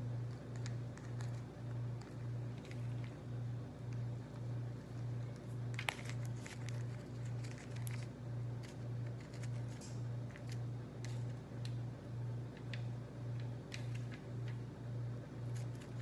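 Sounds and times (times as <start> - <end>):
low pulsing hum: 0.0 - 16.0
carrot strips clicking and rustling: 0.2 - 11.8, 12.5 - 14.7, 15.4 - 16.0.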